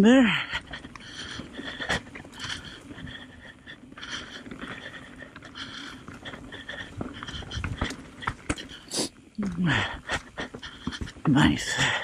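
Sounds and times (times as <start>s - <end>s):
bike rattling: 0.0s - 12.0s
rider breathing hard: 0.3s - 12.0s
tyres crunching over dirt: 0.4s - 12.0s.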